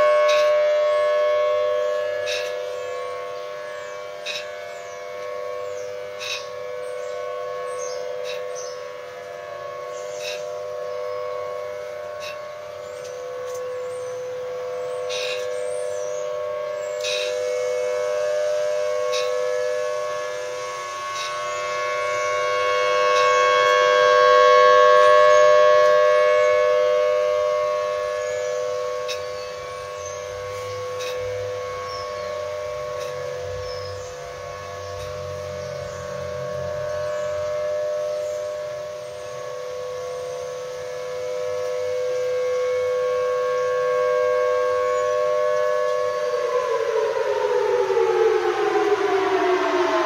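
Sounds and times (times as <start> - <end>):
outdoor warning sirens: 0.0 - 50.0.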